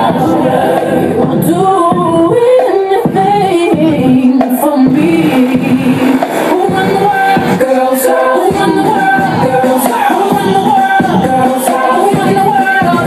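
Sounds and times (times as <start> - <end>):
party music with singing: 0.0 - 13.0.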